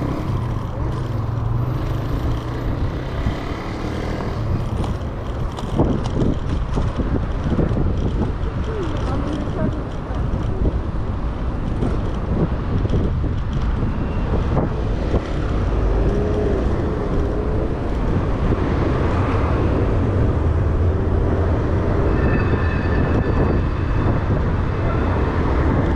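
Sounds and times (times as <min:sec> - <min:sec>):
road traffic: 0:00.0 - 0:25.9
wind rumble on microphone: 0:00.0 - 0:25.9.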